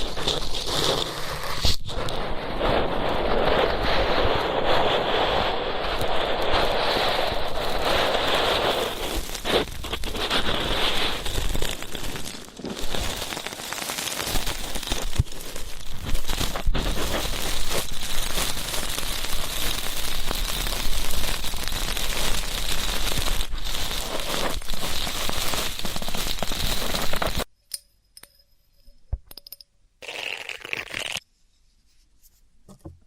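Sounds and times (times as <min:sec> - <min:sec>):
scratching and crackling on microphone: 0:00.0 - 0:27.5, 0:30.0 - 0:31.2.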